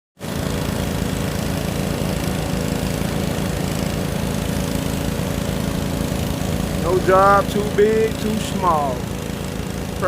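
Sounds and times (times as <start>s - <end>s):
pressure washer engine running: 0.2s - 10.0s.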